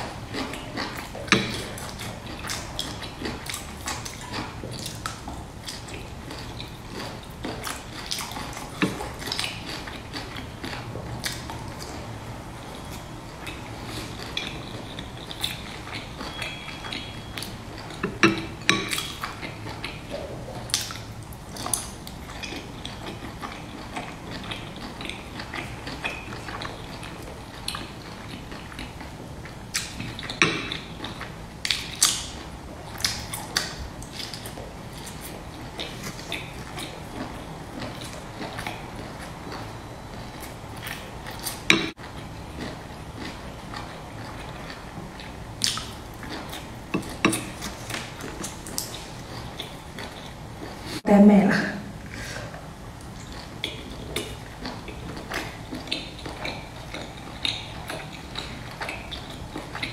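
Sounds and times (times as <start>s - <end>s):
chewing and wet mouth clicks: 0.3s - 12.0s, 12.8s - 50.9s, 53.0s - 59.9s.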